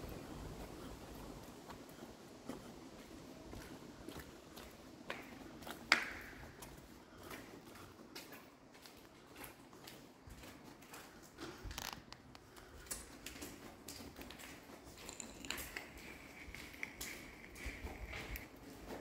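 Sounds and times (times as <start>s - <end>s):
footsteps scuffing on concrete: 0.0s - 19.0s.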